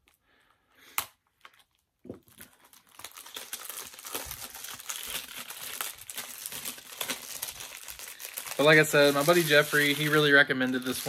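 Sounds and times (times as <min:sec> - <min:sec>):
plastic wrapping crinkling: 0:01.3 - 0:11.0.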